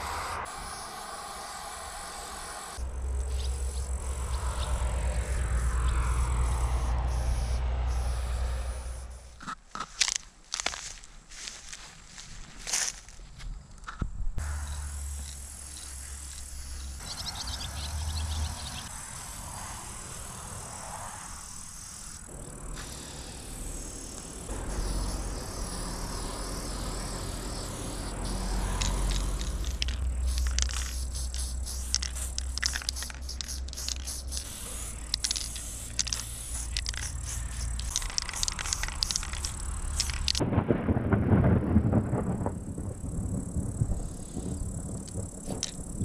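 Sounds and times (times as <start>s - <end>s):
spray paint can hissing: 0.0s - 10.7s, 14.4s - 40.4s, 44.1s - 46.0s.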